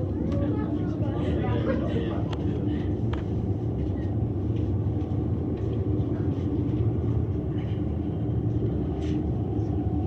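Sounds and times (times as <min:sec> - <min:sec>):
cable car low rumble: 0:00.0 - 0:10.0
constant hum: 0:00.0 - 0:10.0.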